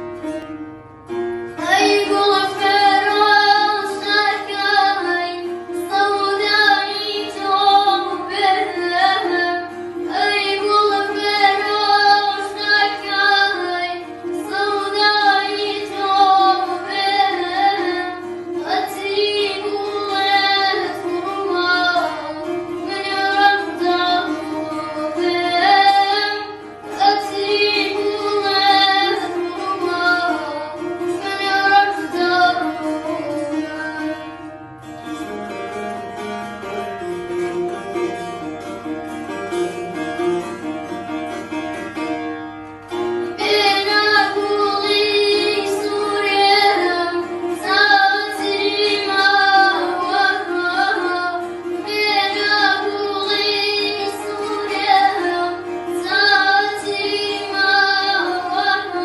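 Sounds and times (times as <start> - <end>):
plucked lute: 0.0 - 59.0
boy singing: 1.6 - 34.4, 43.3 - 59.0.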